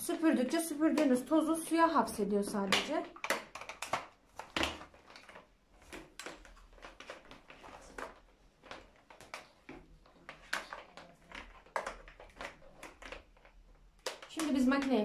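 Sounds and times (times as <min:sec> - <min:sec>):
plastic hose clicks and knocks: 0:02.4 - 0:15.0.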